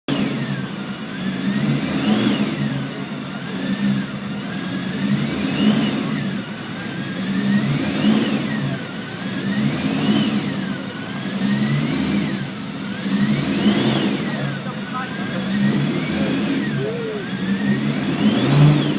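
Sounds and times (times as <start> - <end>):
sports car engine revving: 0.1 - 18.9.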